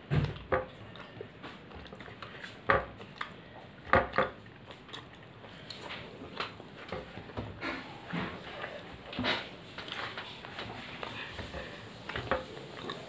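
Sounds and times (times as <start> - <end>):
boy chewing food: 0.0 - 13.0.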